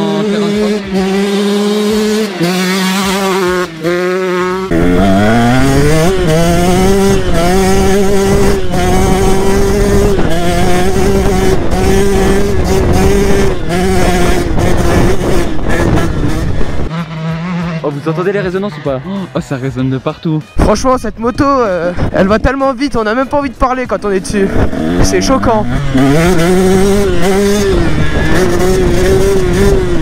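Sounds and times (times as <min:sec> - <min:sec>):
motocross bike engine revving: 0:00.0 - 0:19.9, 0:23.0 - 0:30.0.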